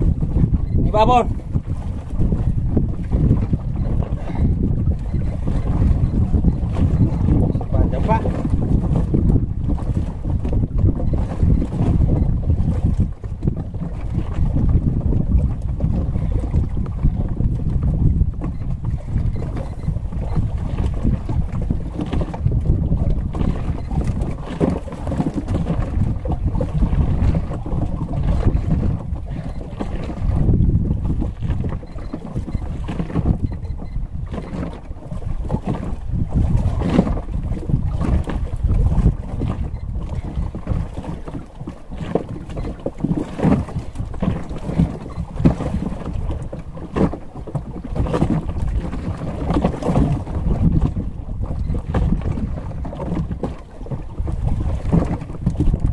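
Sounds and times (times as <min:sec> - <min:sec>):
wind buffeting microphone: 0:00.0 - 0:55.9
knocks on boat: 0:01.5 - 0:55.9.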